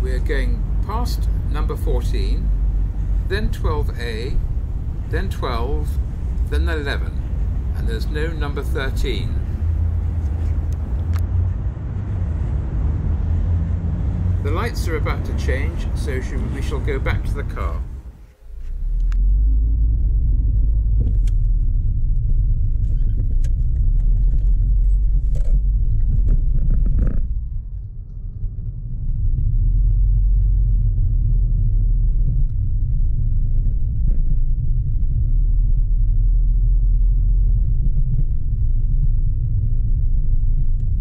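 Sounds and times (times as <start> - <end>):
car cabin rumble: 0.0 - 41.0.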